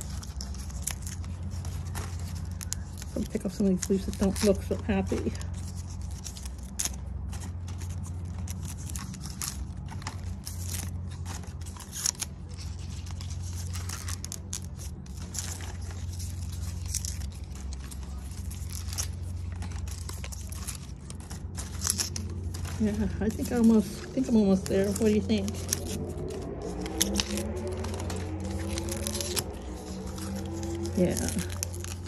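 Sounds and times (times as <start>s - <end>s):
dry leaves tearing and crackling: 0.0s - 32.0s
steady low hum: 0.0s - 32.0s.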